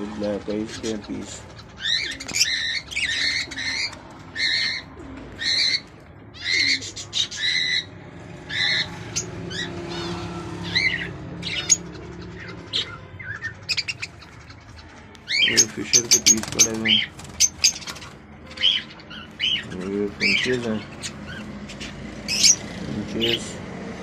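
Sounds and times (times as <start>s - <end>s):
birds chirping shrilly: 0.0s - 24.0s.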